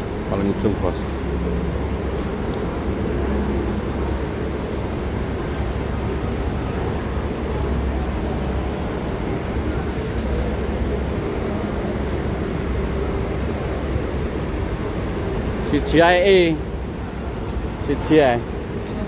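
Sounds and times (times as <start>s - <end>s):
faint wavering hum: 0.0s - 19.0s
vehicle engine idling: 0.0s - 19.0s.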